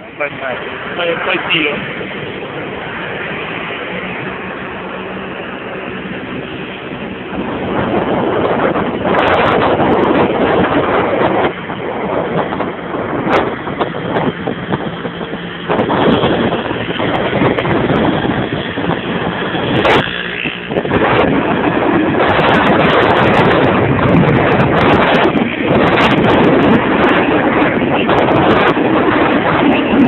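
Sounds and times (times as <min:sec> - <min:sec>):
road noise: 0:00.0 - 0:30.0
scooter engine: 0:00.0 - 0:30.0
wind rushing over microphone: 0:00.0 - 0:30.0.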